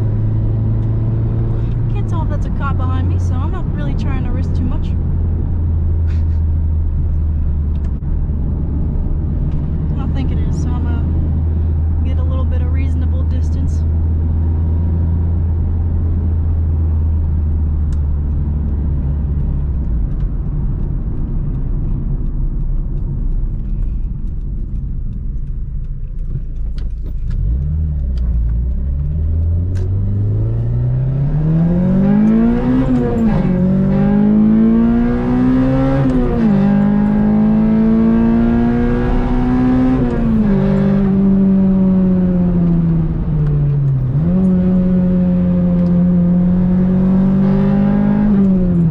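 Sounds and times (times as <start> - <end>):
car engine from inside cabin: 0.0 - 48.9.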